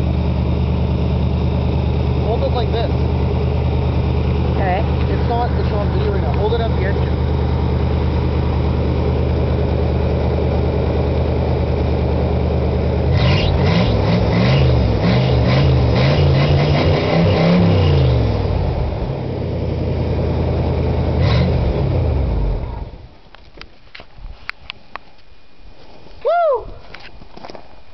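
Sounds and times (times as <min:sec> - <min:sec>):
car engine idling and revving: 0:00.0 - 0:23.2.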